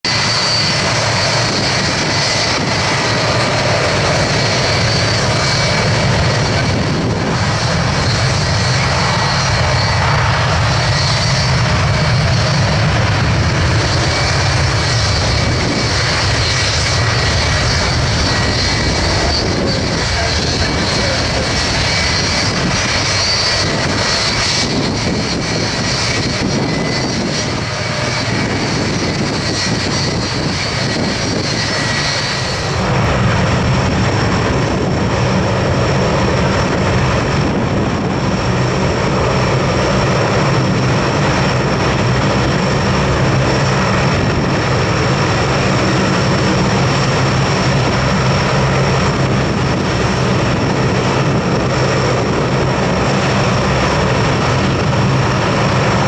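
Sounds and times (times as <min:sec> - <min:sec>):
high whine: 0:00.0 - 0:56.0
propeller drone with turbine whine: 0:00.0 - 0:56.0.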